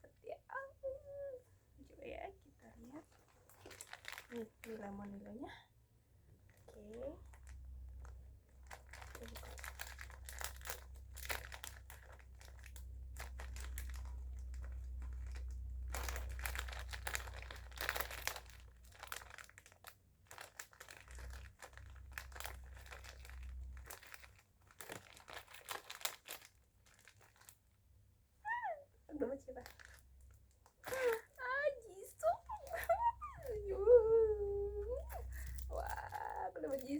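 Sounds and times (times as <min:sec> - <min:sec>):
plastic packet crinkling: 0:02.7 - 0:05.4, 0:06.6 - 0:27.8, 0:29.2 - 0:36.9.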